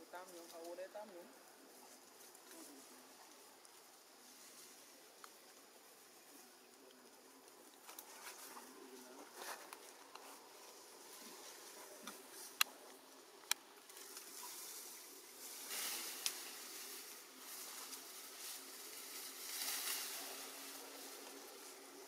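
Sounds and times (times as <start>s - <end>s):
leaves and twigs rustling: 0.0s - 22.0s.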